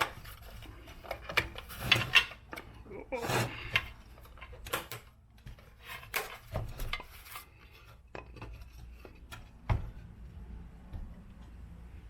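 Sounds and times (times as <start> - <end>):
parts clicking and knocking: 0.0 - 10.2.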